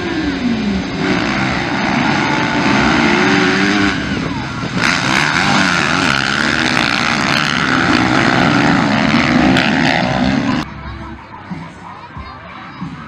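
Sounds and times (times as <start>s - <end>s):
motocross bikes revving: 0.0s - 10.7s.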